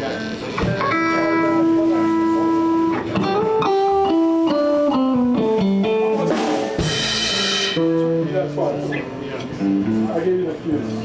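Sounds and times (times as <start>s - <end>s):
electric guitar blues lick: 0.0s - 10.4s.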